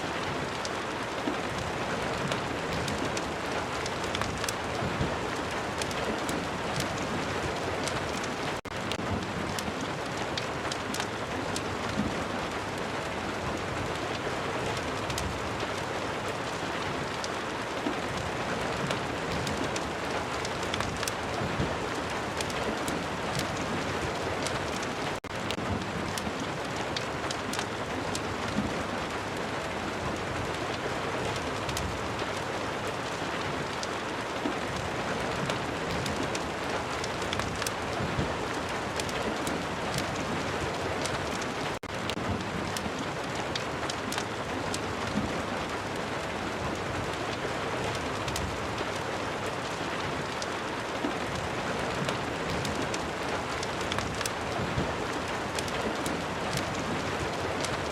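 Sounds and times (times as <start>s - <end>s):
fire crackles and ticks: 0.0s - 57.9s
steady rain falling: 0.0s - 57.9s.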